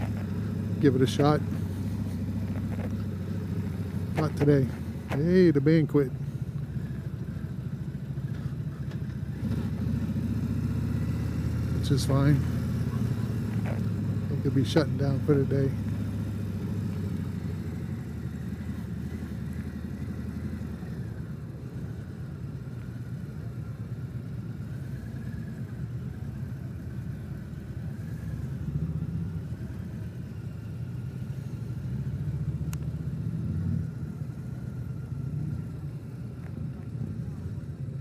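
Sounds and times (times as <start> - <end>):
motorcycle engine rumbling: 0.0 - 38.0.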